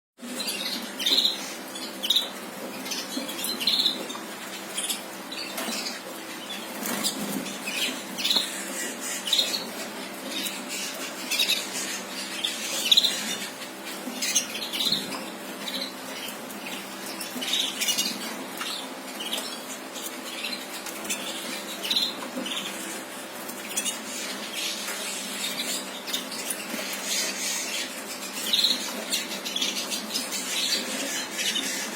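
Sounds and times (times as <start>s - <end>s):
canary chirping: 0.2s - 31.9s.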